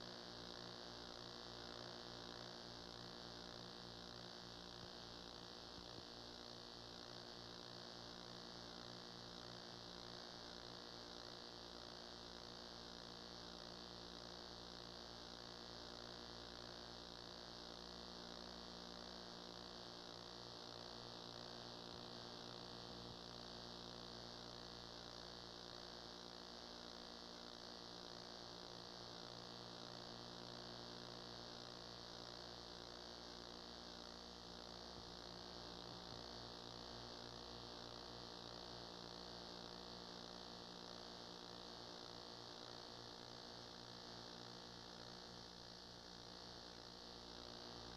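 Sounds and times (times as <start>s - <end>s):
faint electrical hum: 0.0s - 47.9s.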